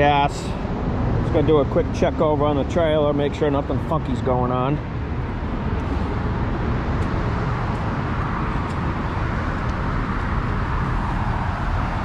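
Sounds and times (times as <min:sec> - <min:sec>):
road traffic hiss: 0:00.0 - 0:12.0
road traffic rumble: 0:00.0 - 0:12.0.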